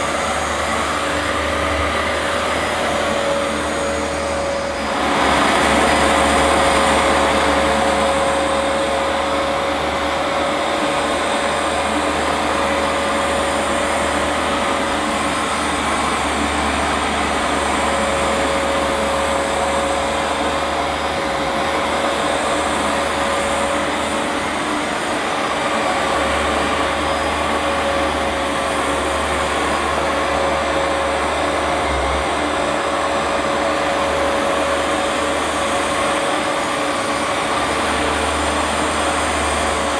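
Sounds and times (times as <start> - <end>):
carpet washer motor whining: 0.0 - 39.9.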